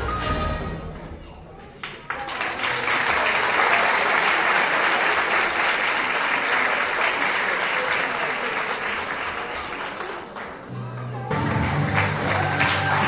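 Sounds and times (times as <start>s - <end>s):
audience applauding: 1.8s - 13.0s.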